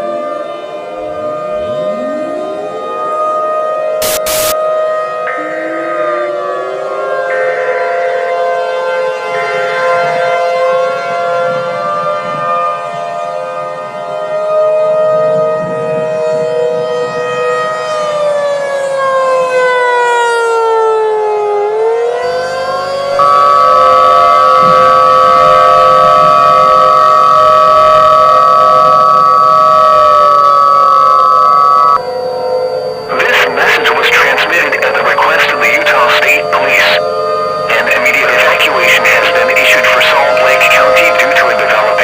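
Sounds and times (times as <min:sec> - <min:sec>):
civil defense sirens wailing: 0:00.0 - 0:42.0
loud steady siren tone: 0:00.0 - 0:42.0.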